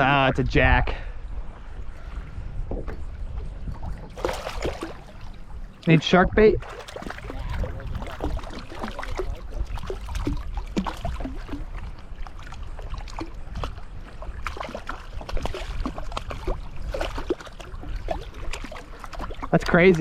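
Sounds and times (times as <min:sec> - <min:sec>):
wind rumble on microphone: 0:00.0 - 0:20.0
small water splashes: 0:02.8 - 0:06.0, 0:06.6 - 0:20.0.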